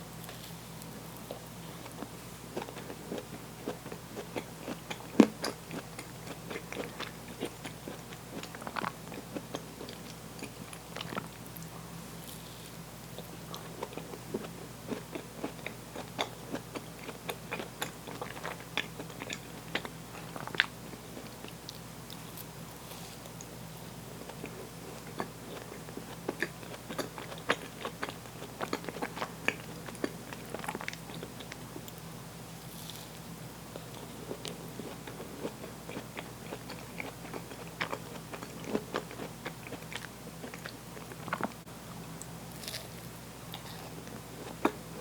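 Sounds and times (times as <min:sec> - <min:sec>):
person chewing food: 0:00.2 - 0:23.6, 0:24.2 - 0:32.0, 0:32.7 - 0:45.0.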